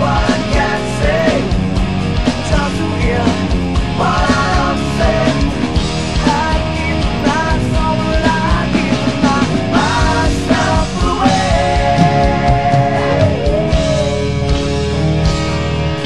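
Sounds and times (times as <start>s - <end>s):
hard rock band playing: 0.0s - 16.0s
lead guitar bending notes: 1.5s - 16.0s.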